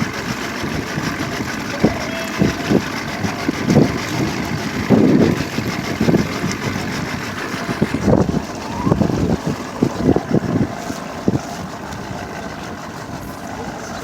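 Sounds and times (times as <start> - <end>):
boat motor running: 0.0 - 14.0
low rumbling surges: 0.0 - 14.0.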